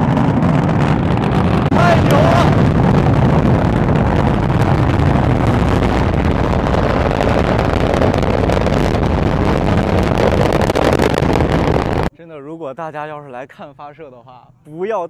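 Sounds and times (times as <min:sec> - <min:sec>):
rocket engines rumbling: 0:00.0 - 0:12.1.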